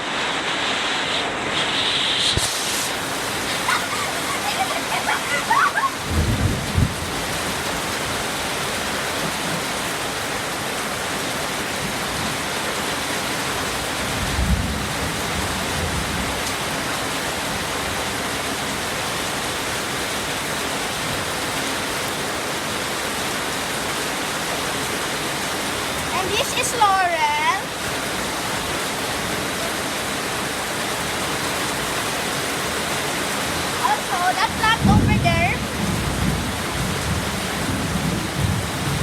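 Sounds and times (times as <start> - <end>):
heavy rain: 0.0 - 39.0.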